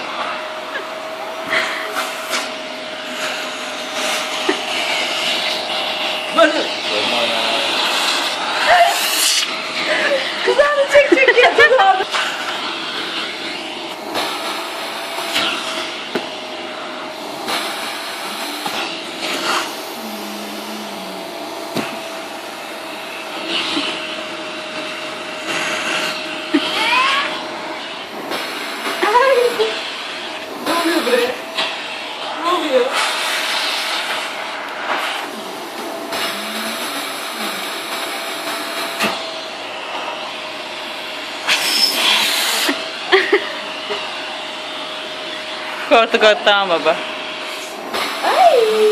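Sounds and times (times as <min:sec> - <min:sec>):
vacuum cleaner running: 0:00.0 - 0:48.9.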